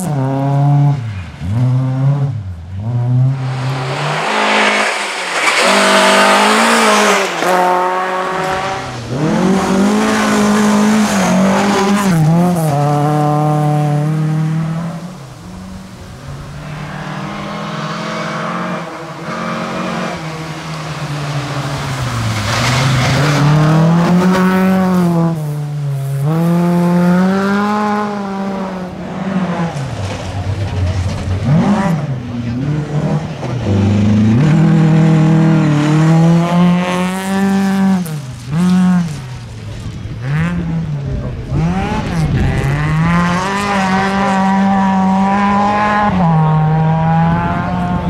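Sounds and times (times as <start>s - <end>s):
rally car engine at full throttle: 0.0s - 48.0s.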